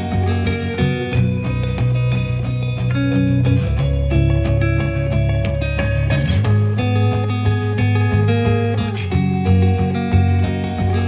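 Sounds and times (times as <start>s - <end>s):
guitar-led background music: 0.0s - 11.0s
low bass line: 0.0s - 11.0s.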